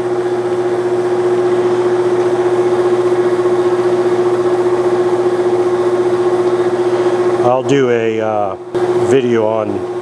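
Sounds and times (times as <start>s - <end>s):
metal lathe gear whine: 0.0s - 10.0s.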